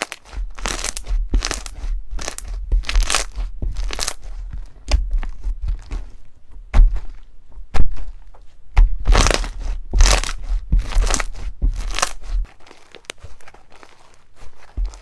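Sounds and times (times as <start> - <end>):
slime popping: 0.0 - 8.2, 8.8 - 15.0
slime squishing: 0.0 - 15.0.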